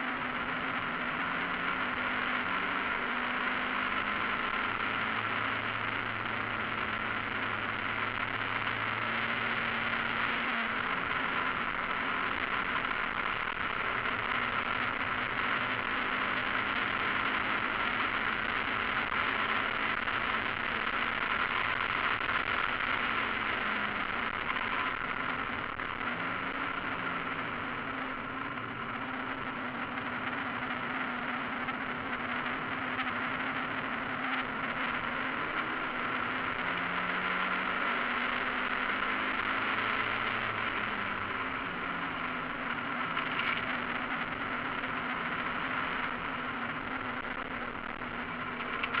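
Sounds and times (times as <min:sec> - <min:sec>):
wind and road noise: 0:00.0 - 0:49.0
race car engine under load: 0:00.2 - 0:49.0.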